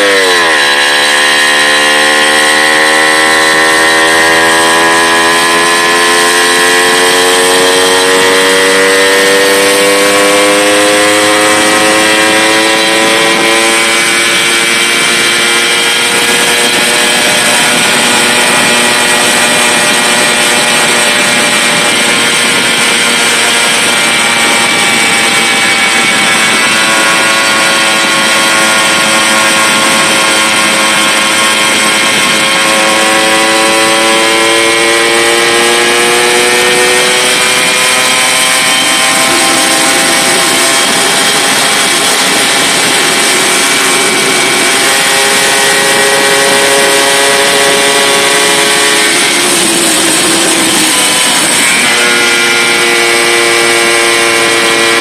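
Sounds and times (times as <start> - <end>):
moped engine running: 0.0 - 55.0.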